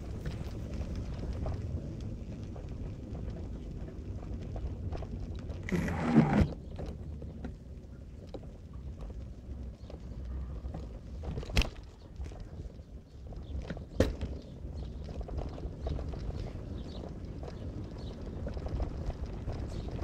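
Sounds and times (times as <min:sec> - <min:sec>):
car road rumble: 0:00.0 - 0:20.0.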